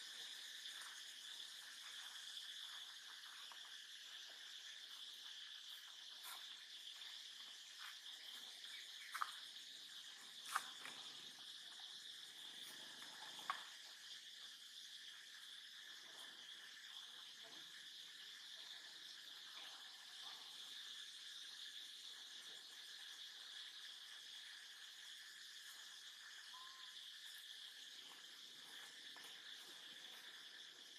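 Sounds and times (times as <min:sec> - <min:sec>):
faint insect chorus: 0:00.0 - 0:30.9.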